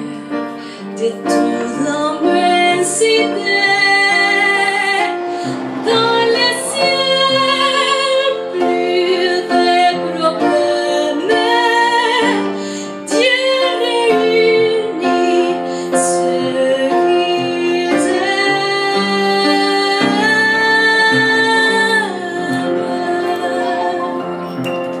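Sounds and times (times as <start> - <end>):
woman singing: 0.0 - 24.6
upright piano accompaniment: 0.0 - 25.0.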